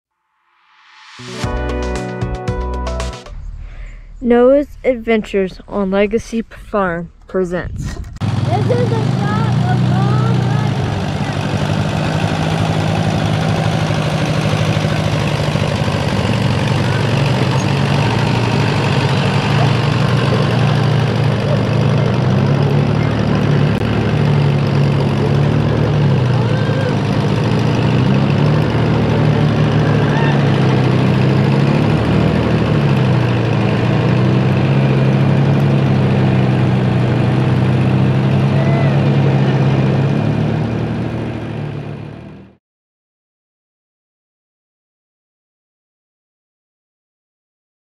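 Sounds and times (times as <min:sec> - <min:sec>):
tractor engine running: 0:02.9 - 0:42.6
utility vehicle engine running: 0:02.9 - 0:42.6.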